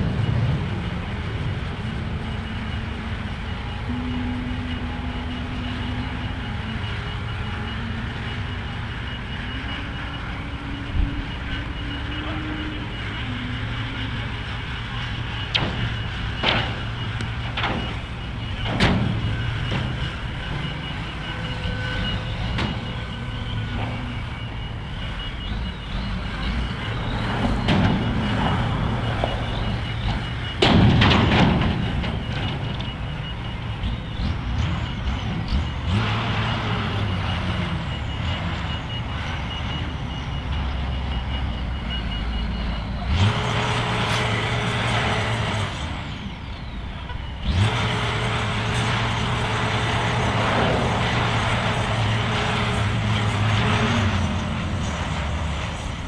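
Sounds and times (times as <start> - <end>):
backup alarm beeping: 0.0 - 56.0
heavy diesel machinery running: 0.0 - 56.0.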